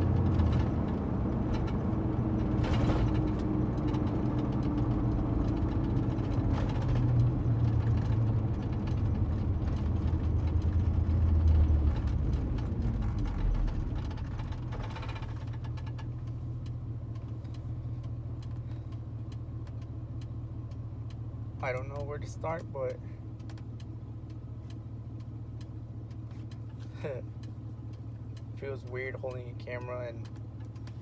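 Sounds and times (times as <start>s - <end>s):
truck engine and road noise: 0.0s - 31.0s
light regular ticking: 0.1s - 31.0s.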